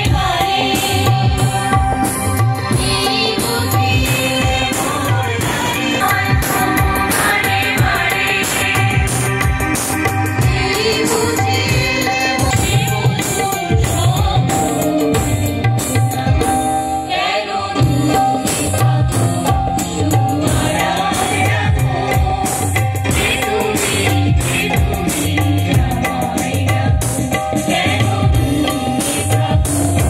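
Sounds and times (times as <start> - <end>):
steady drum beat: 0.0 - 16.8, 17.8 - 30.0
women singing together: 0.0 - 30.0.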